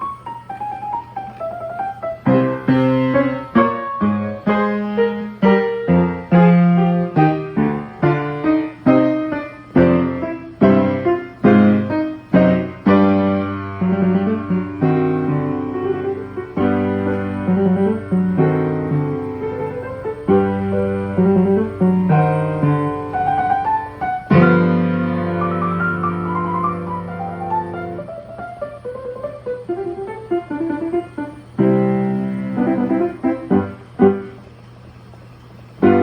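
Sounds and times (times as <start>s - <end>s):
piano playing chords: 0.0s - 34.8s, 35.7s - 36.0s.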